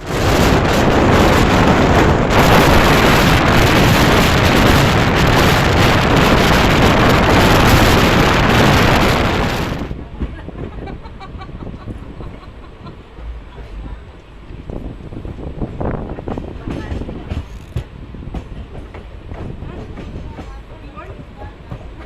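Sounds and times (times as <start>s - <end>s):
wind and rail noise from train: 0.0s - 22.0s.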